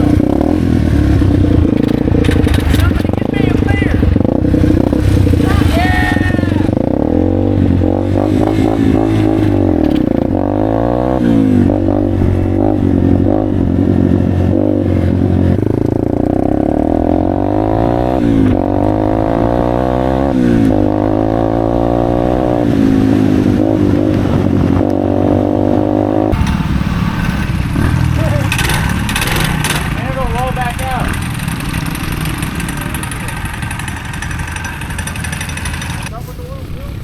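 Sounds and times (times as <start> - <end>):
motorcycle and vehicle engines: 0.0 - 37.0.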